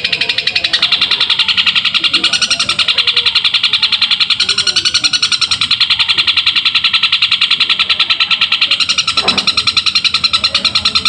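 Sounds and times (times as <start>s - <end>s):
bird rapid high chatter: 0.0s - 11.0s.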